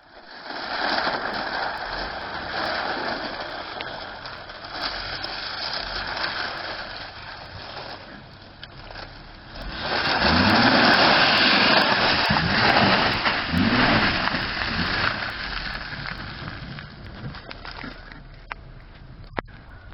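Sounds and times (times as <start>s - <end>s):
car engine revving: 0.9s - 19.5s.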